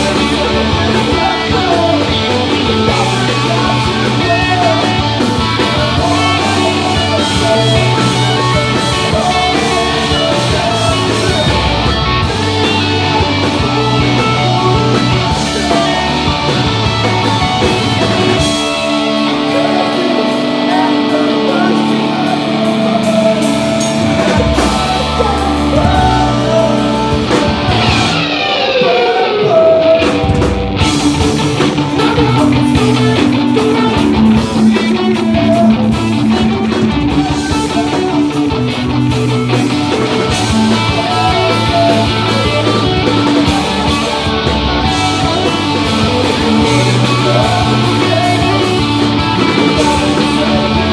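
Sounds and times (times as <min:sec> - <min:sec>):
drum kit: 0:00.0 - 0:50.9
electric guitars: 0:00.0 - 0:50.9
person singing: 0:00.0 - 0:50.9.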